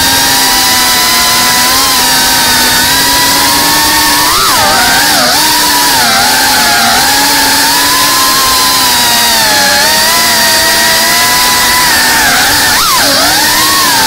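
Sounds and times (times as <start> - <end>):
drone motors and propellers whining: 0.0 - 14.0.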